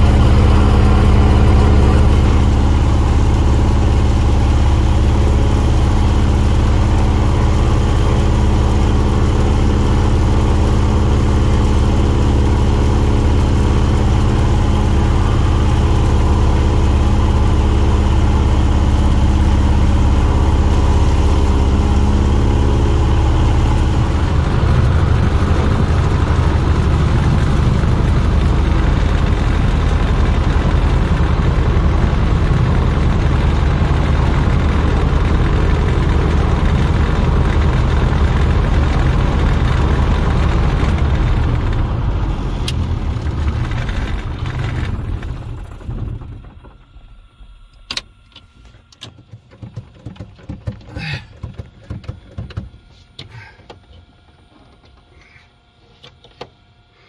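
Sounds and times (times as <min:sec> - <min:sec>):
propeller engine running: 0:00.0 - 0:53.5.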